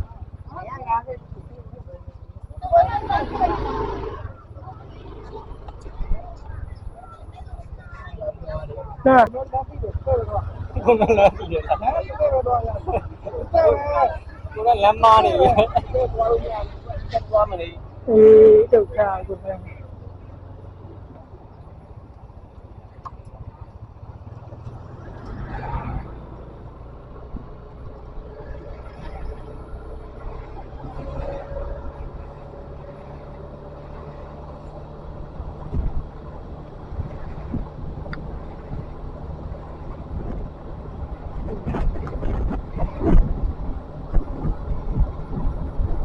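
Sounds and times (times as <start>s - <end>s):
road traffic noise: 0.0s - 46.0s
vehicle engine hum: 0.0s - 46.0s.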